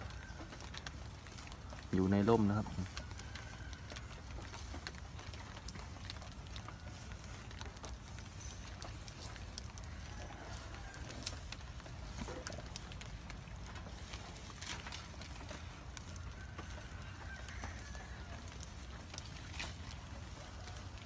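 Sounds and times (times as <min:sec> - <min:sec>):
rain drips and ticks: 0:00.0 - 0:21.0.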